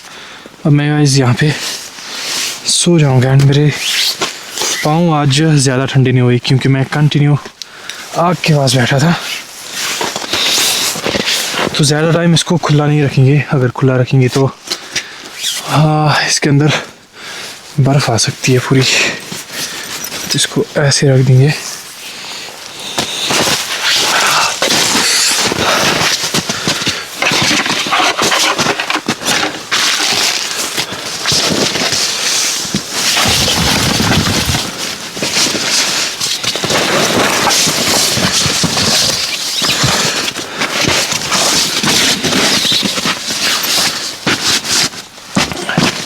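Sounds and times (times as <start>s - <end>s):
tent fabric rustling and crinkling: 0.0s - 6.3s, 8.0s - 13.6s, 14.2s - 46.0s.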